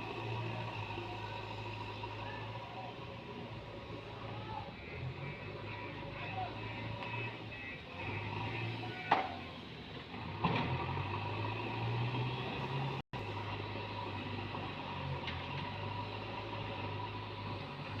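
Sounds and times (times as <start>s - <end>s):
diesel digger engine running: 0.0s - 18.0s.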